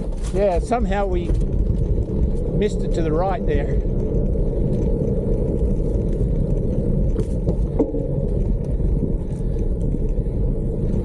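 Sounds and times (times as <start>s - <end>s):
tyres rolling over dirt track: 0.0s - 11.0s
wind on microphone: 0.0s - 11.0s.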